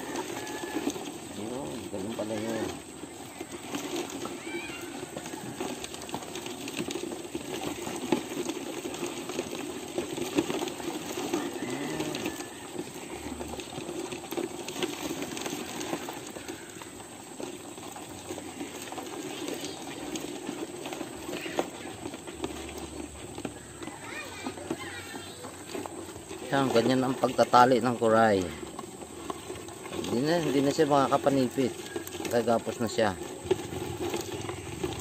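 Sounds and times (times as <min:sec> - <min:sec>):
small clicks and rustles: 0:00.0 - 0:35.0.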